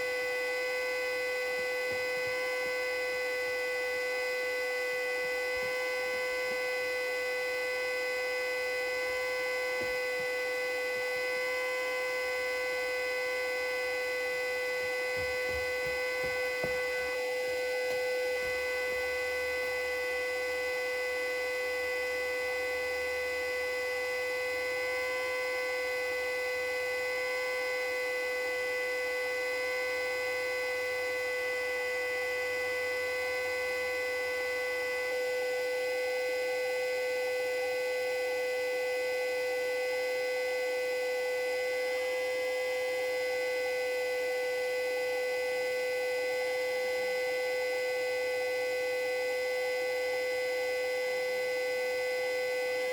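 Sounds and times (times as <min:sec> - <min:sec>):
siren steady tone: 0:00.0 - 0:52.9.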